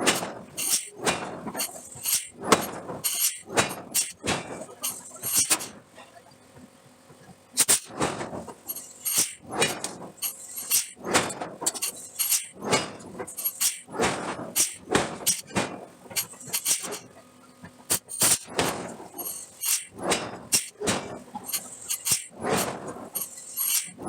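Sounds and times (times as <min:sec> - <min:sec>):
steel forging knocks and scrapes: 0:00.0 - 0:05.8, 0:07.6 - 0:17.1, 0:17.9 - 0:24.0.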